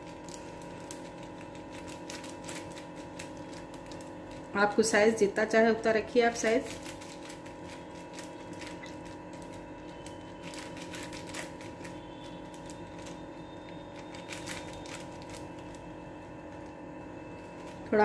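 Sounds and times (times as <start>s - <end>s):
plastic sheet crinkling: 0.0s - 5.1s, 6.2s - 18.0s
steady background hum: 0.0s - 18.0s.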